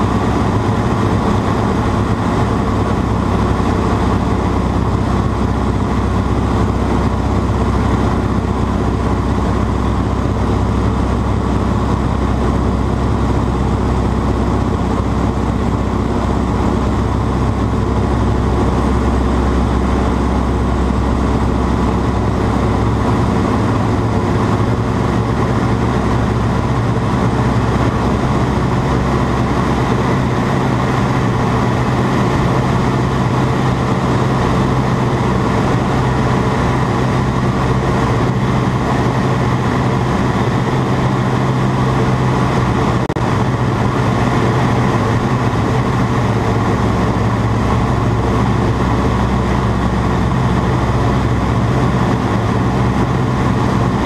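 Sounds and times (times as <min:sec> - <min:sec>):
airplane engine droning: 0:00.0 - 0:54.0.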